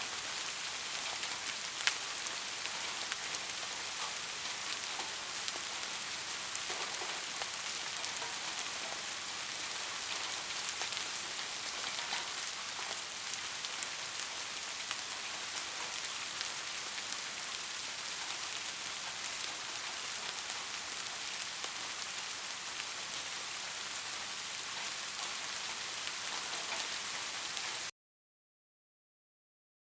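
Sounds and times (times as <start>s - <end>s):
rain-like hiss: 0.0s - 27.9s.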